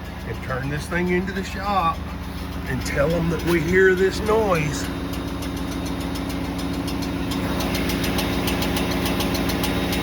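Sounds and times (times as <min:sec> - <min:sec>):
car engine idling: 0:00.0 - 0:10.0
fast metallic ticking: 0:00.0 - 0:10.0.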